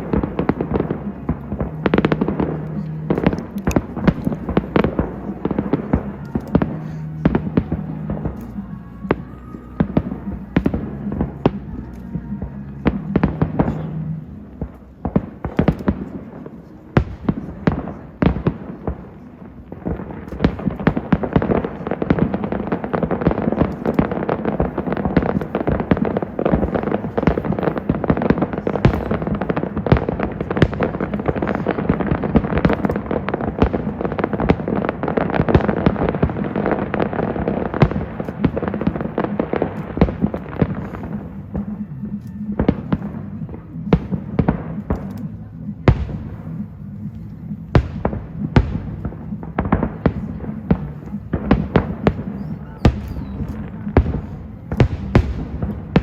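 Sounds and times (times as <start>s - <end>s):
fireworks bangs and crackling: 0.0s - 56.0s
music: 0.0s - 56.0s.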